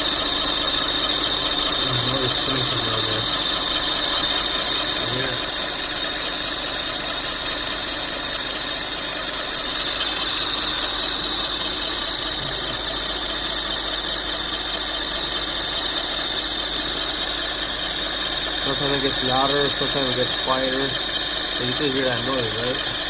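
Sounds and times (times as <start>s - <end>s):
car engine idling: 0.0s - 23.0s
high-pitched belt squeal: 0.0s - 23.0s.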